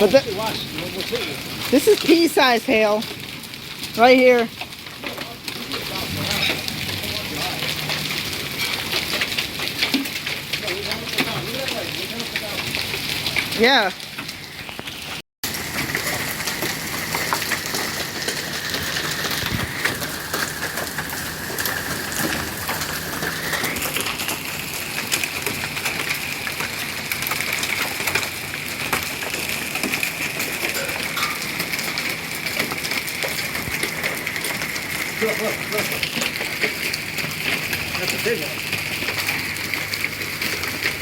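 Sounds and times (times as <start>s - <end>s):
hail and rain pelting ground: 0.0s - 41.0s
hailstones ticking and bouncing: 0.0s - 41.0s.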